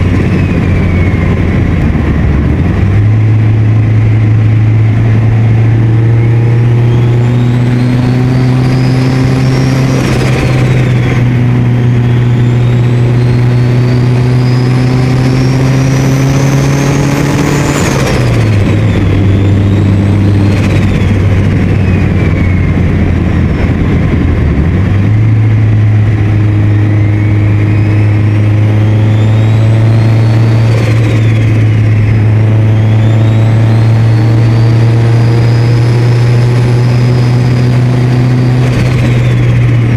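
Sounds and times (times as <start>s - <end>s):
turbo whistle: 0.0s - 2.0s, 2.7s - 24.3s, 24.9s - 39.9s
turbo compressor surge flutter: 0.0s - 39.9s
turbocharged car engine drone: 0.0s - 39.9s.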